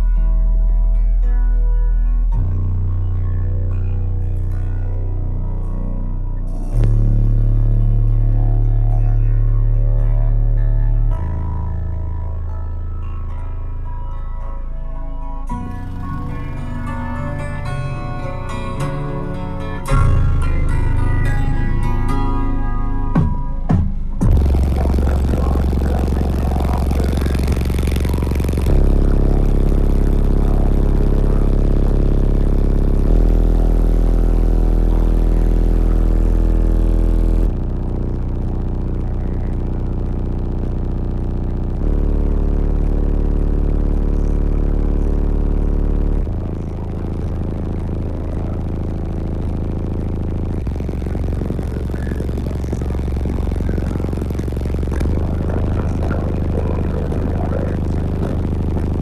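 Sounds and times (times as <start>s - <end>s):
bass-heavy music from subwoofers: 0.0s - 59.0s.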